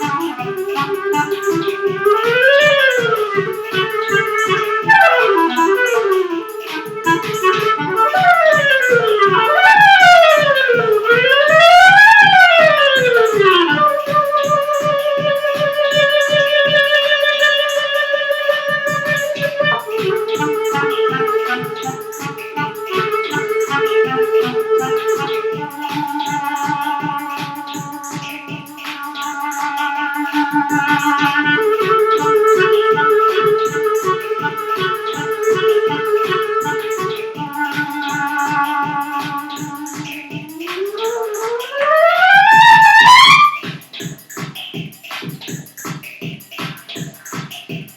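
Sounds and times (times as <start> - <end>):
clarinet playing: 0.0 - 43.7
programmed drum beat: 0.0 - 47.9.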